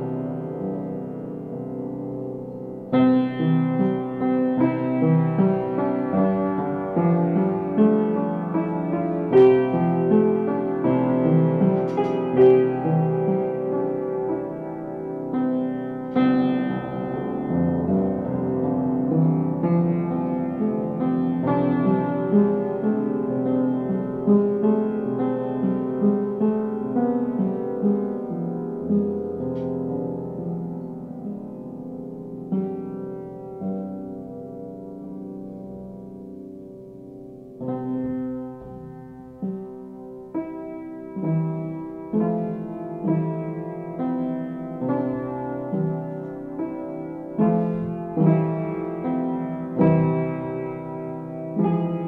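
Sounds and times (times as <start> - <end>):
piano chords: 0.0 - 52.0.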